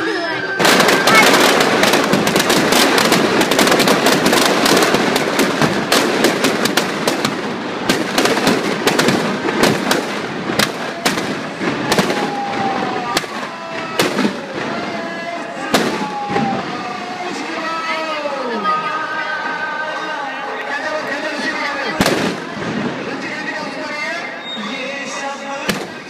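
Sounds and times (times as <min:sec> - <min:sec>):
firecrackers banging: 0:00.0 - 0:18.1, 0:21.2 - 0:24.3, 0:25.6 - 0:26.0.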